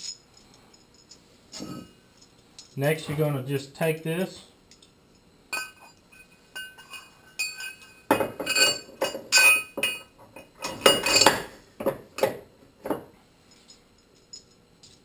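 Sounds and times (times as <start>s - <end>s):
metal bolts and washers clinking: 0.0s - 3.3s, 4.7s - 15.0s.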